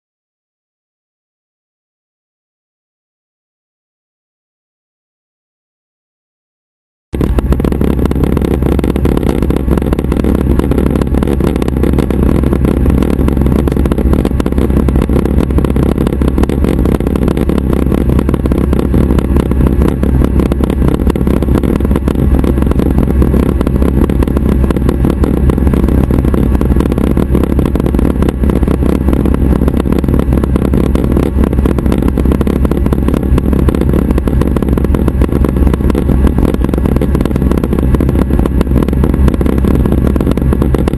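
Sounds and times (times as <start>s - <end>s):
helicopter engine and rotors drone: 7.2s - 40.9s.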